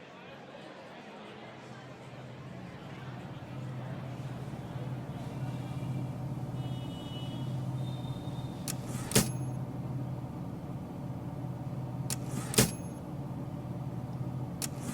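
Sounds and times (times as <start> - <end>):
steady low hum: 2.0 - 14.9.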